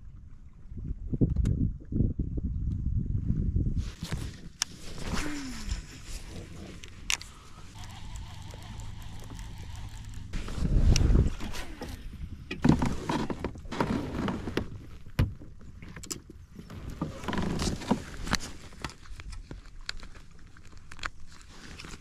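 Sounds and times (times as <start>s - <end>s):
knocks clicks and rustles of gear: 3.9s - 22.0s.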